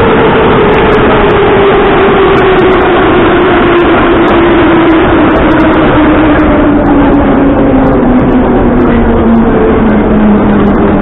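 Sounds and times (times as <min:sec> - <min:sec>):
train motor whine: 0:00.0 - 0:11.0
train wheels rumbling on rail: 0:00.0 - 0:11.0.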